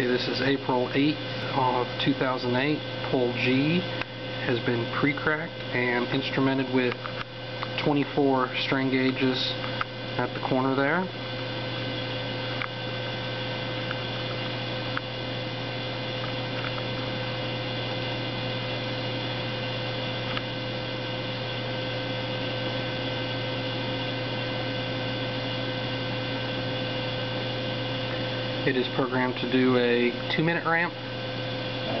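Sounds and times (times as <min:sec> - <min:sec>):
machinery hum: 0:00.0 - 0:32.0.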